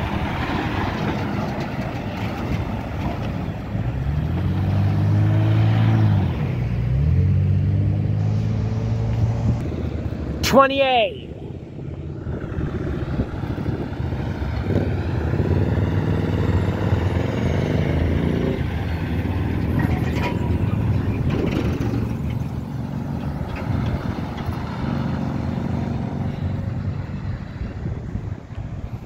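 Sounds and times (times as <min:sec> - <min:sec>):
truck diesel engine rumbling: 0:00.0 - 0:29.0.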